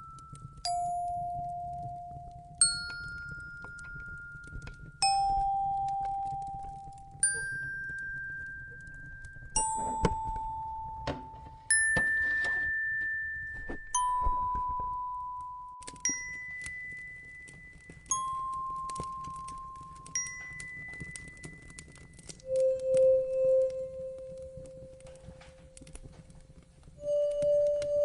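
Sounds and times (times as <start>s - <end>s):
small crackles: 0.0s - 28.0s.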